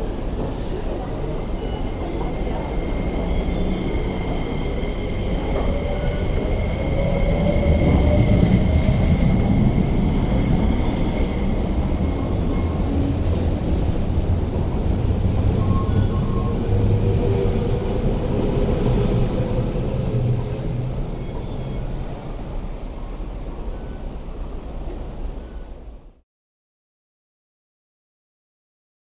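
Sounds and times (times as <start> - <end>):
electric train whine: 0.0 - 26.0
wheel and rail rumble: 0.0 - 26.0.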